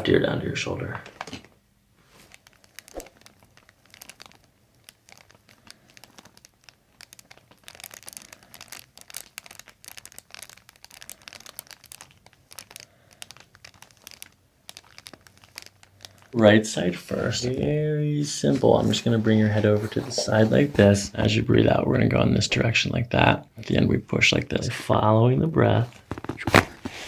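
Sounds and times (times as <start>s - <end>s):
crinkling and rustling on table: 1.0s - 21.4s, 25.8s - 27.0s.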